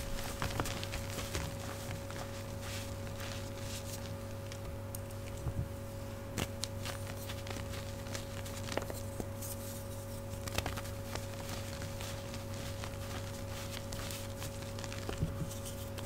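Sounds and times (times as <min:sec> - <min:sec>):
refrigerator hum: 0:00.0 - 0:16.0.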